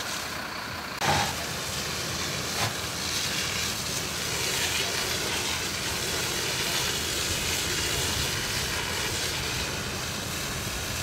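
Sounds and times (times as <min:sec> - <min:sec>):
fire hose water jet hissing: 0:00.0 - 0:11.0.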